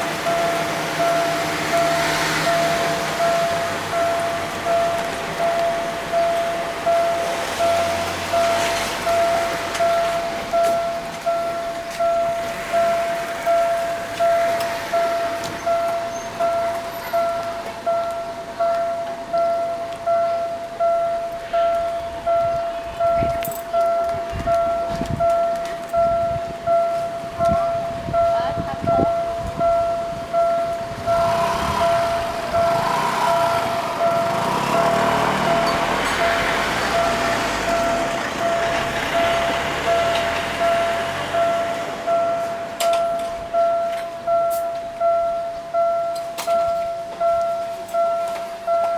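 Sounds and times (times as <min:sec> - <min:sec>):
road vehicle engine and tyres: 0:00.0 - 0:48.9.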